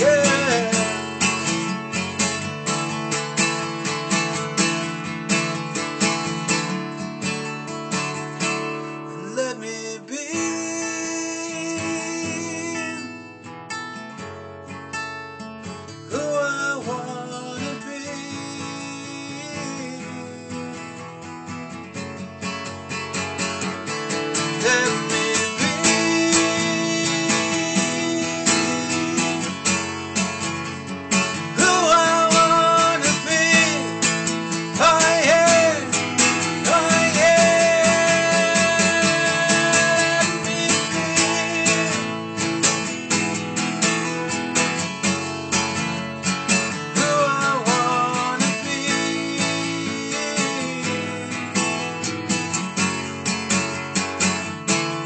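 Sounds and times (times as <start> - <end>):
acoustic guitar strummed: 0.0 - 55.0.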